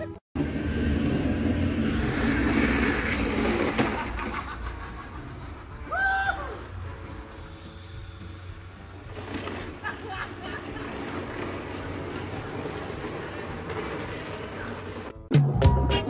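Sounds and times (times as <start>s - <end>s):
garbage truck engine rumbling: 0.0s - 5.8s, 7.2s - 16.0s
traffic noise: 0.0s - 15.3s.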